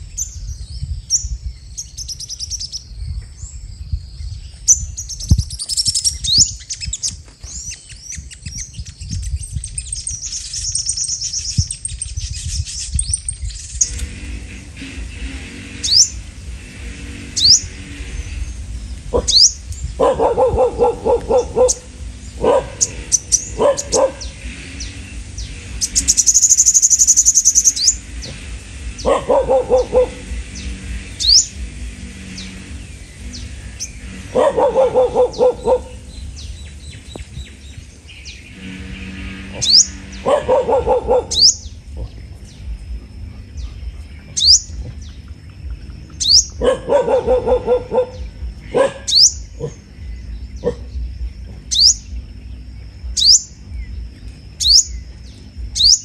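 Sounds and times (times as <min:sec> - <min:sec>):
buzzy high bird trill: 0:00.0 - 0:56.0
harsh low bird notes: 0:00.0 - 0:56.0
high upward-sweeping bird chirps: 0:00.0 - 0:56.0.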